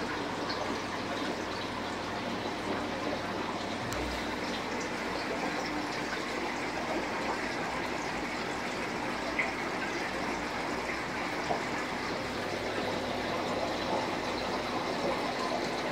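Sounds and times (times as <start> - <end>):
aquarium water rushing: 0.0 - 15.9.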